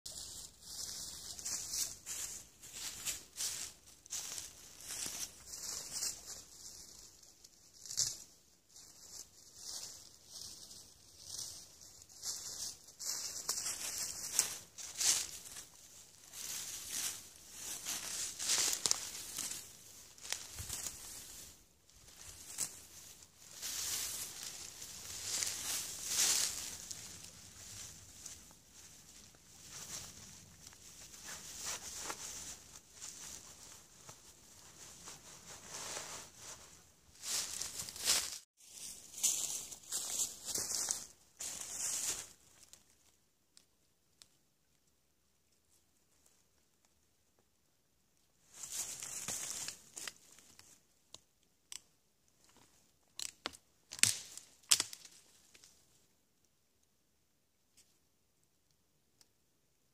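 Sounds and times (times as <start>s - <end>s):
dry grass rustling: 0.1s - 43.1s, 48.4s - 50.9s, 52.4s - 56.0s.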